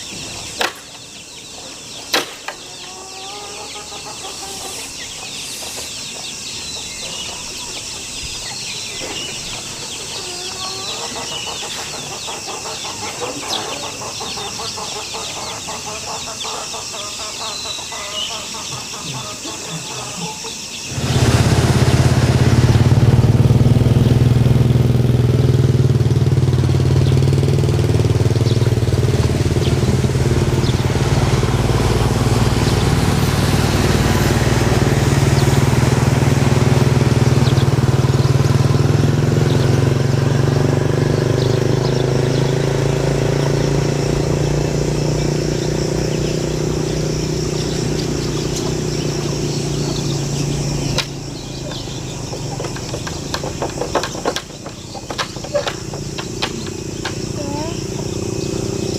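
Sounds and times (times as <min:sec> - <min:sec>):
engine droning: 0:00.0 - 0:58.9.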